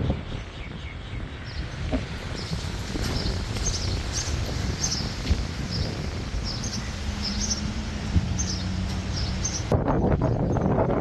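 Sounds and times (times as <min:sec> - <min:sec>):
wind rumble: 0:00.0 - 0:11.0.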